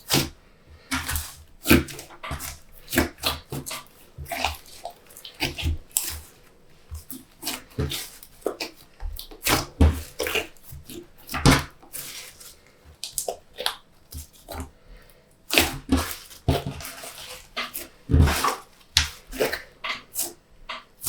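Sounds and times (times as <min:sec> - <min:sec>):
slime squelching and popping: 0:00.0 - 0:14.8, 0:15.4 - 0:21.0.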